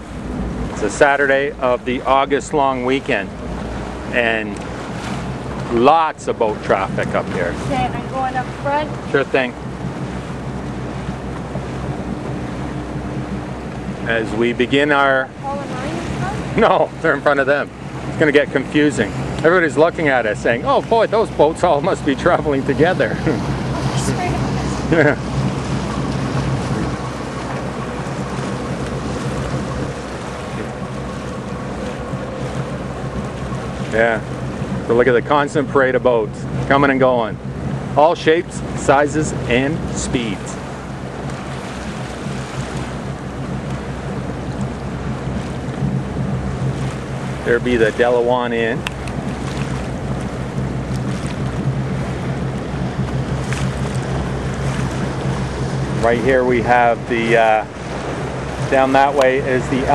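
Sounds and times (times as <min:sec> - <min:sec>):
boat engines droning: 0:00.0 - 0:59.9
water rushing past hull: 0:00.0 - 0:59.9
wind on microphone: 0:00.0 - 0:59.9.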